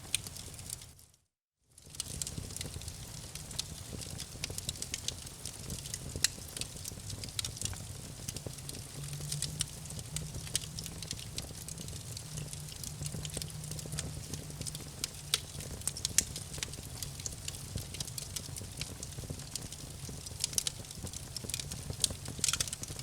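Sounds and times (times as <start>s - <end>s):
campfire crackling: 1.8s - 23.0s.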